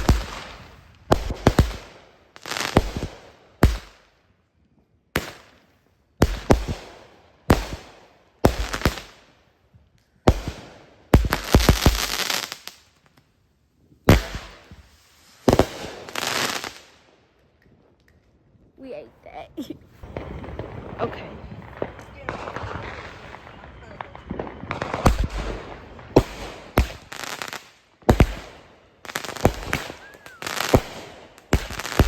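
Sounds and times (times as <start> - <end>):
fireworks banging and crackling: 0.0 - 4.2, 5.2 - 13.3, 14.0 - 18.0, 18.8 - 32.0.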